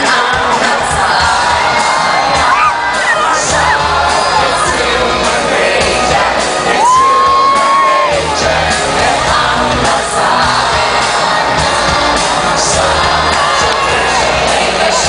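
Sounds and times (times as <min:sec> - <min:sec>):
amplified pop music: 0:00.0 - 0:15.0
crowd screaming and cheering: 0:00.0 - 0:15.0.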